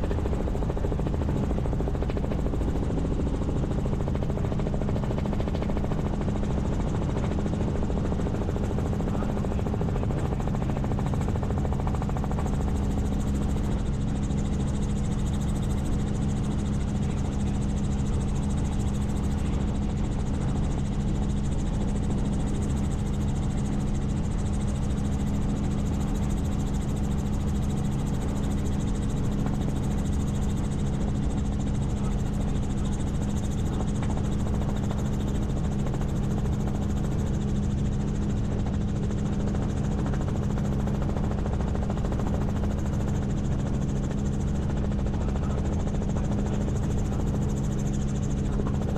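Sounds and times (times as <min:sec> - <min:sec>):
helicopter rotor and engine drone: 0:00.0 - 0:48.9.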